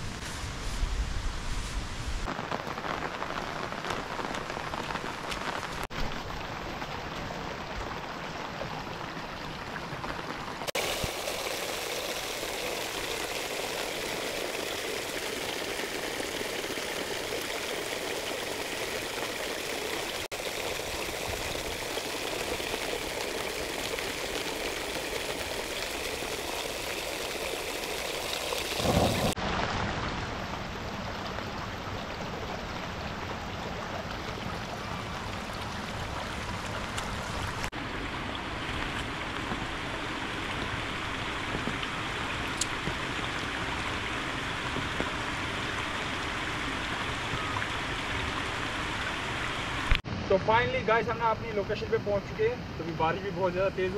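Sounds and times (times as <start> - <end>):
heavy rain: 0.0 - 51.8.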